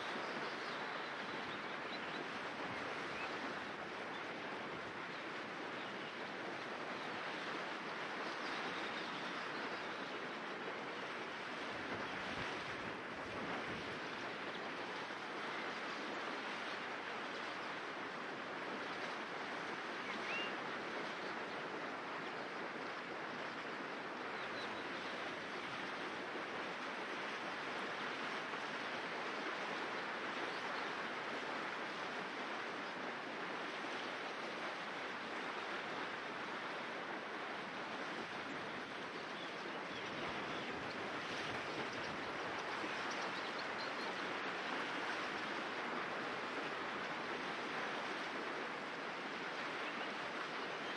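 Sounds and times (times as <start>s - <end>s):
river water rushing over stones: 0.0s - 50.9s.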